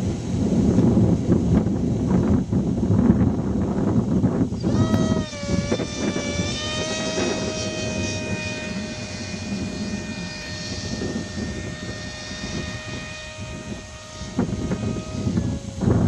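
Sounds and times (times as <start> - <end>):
low wind rumble: 0.0 - 16.0
model airplane motor whining: 0.0 - 16.0.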